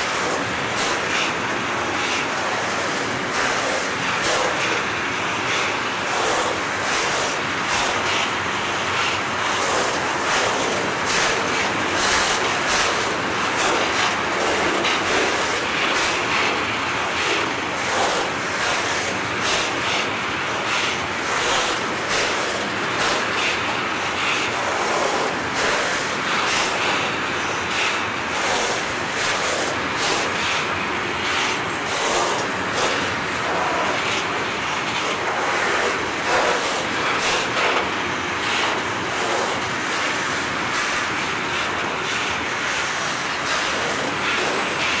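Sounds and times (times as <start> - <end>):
steel wheels rolling on rail: 0.0 - 45.0.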